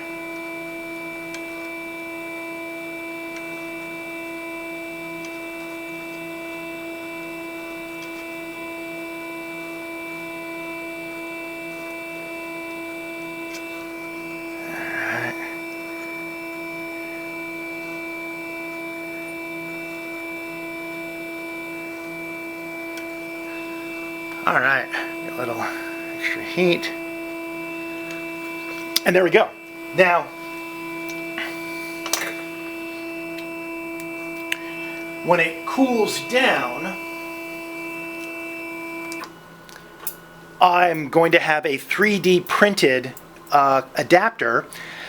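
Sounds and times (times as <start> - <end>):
lathe humming: 0.0 - 41.6.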